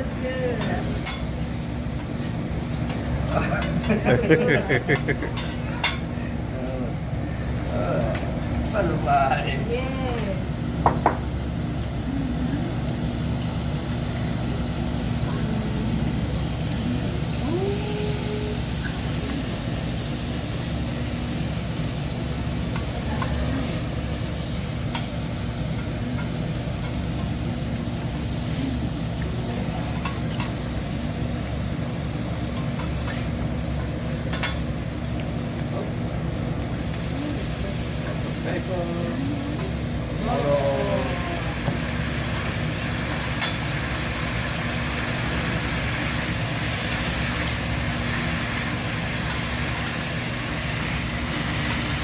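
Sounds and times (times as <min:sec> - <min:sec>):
food sizzling on a grill: 0:00.0 - 0:06.4, 0:07.0 - 0:52.0
hot griddle hissing: 0:00.0 - 0:52.0.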